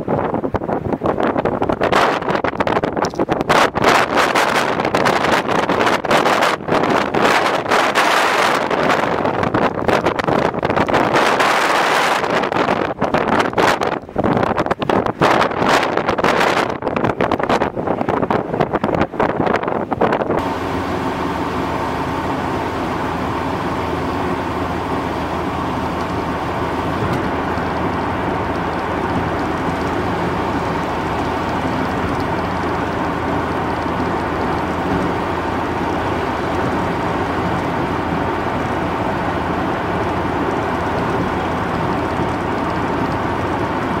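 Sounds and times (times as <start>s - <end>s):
vehicle road and engine noise: 0.0s - 44.0s.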